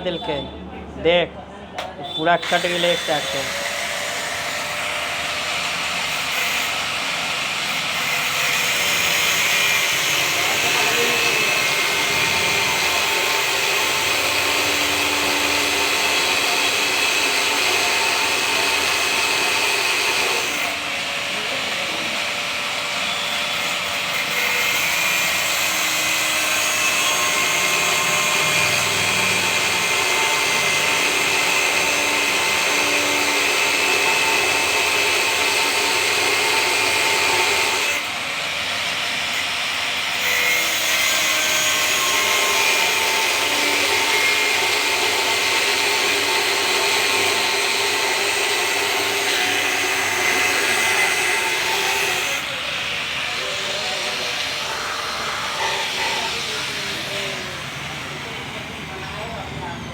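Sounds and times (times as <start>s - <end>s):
angle grinder cutting metal: 2.1s - 59.9s.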